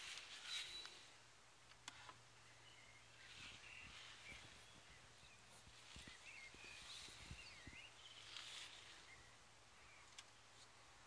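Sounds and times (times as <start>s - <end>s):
faint low hum: 0.0s - 11.0s
birds chirping: 2.0s - 11.0s.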